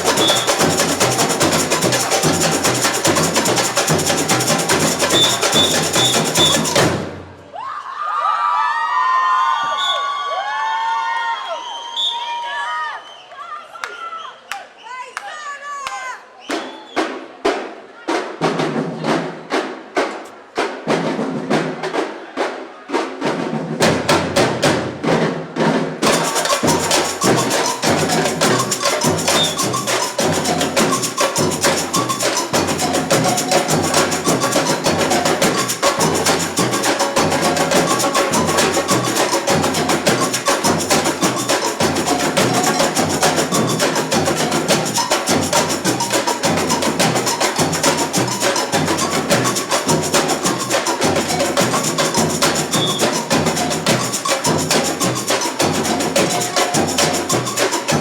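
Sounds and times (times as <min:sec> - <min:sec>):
samba drumming: 0:00.0 - 0:07.7, 0:16.5 - 0:58.0.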